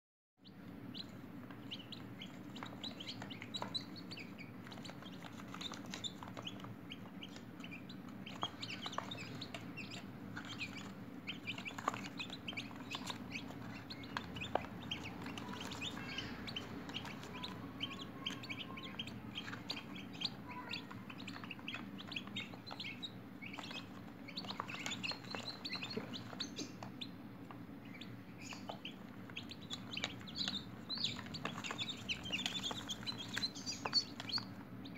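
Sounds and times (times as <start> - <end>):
chicks peeping: 0.4 - 34.9
low steady hum: 0.4 - 34.9.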